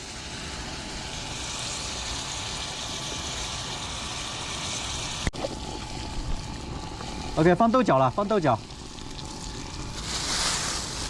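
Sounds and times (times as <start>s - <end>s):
meat frying in a pan: 0.0s - 11.0s.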